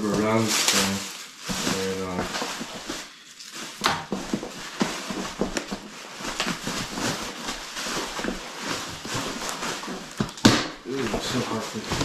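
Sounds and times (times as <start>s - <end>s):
packaging rustling in cardboard box: 0.0s - 12.0s
plastic and cardboard cracking: 0.0s - 12.0s.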